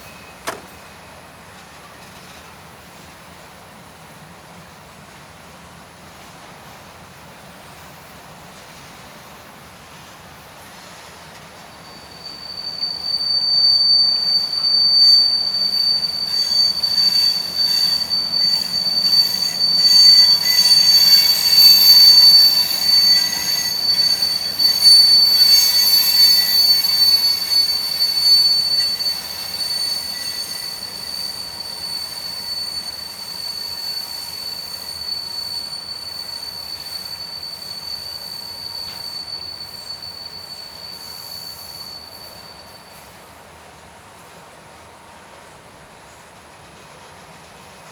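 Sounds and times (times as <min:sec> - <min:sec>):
train cars rumbling and clattering: 0:00.0 - 0:47.9
train wheels squealing: 0:00.0 - 0:47.9.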